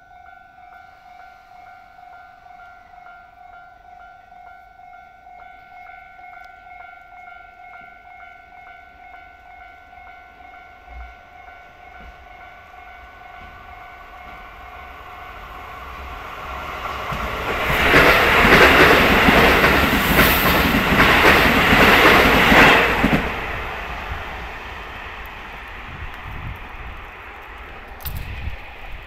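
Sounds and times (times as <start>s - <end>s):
crossing warning bell: 0.0s - 23.9s
train rumble and wheel clatter: 0.0s - 29.0s.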